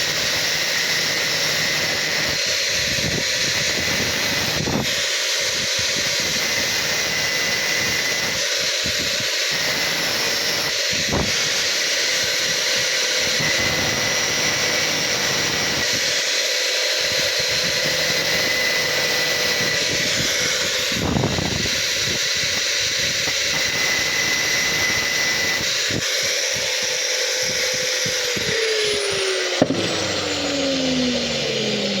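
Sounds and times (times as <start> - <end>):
angle grinder grinding metal: 0.0 - 32.0.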